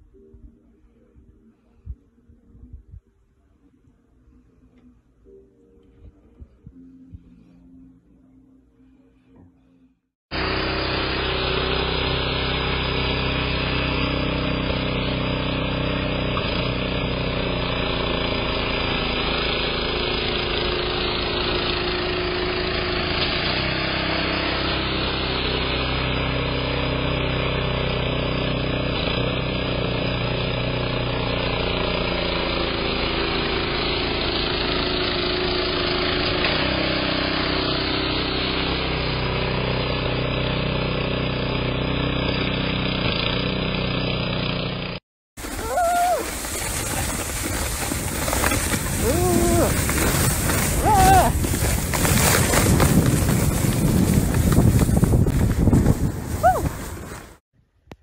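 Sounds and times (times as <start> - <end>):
snowblower engine running: 10.3 - 57.4.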